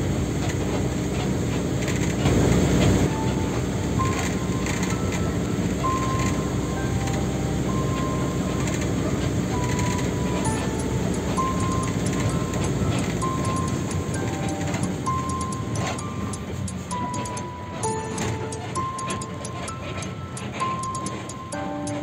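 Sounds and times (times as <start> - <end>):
steady rumbling noise: 0.0 - 22.0
slow melody of high notes: 3.0 - 22.0.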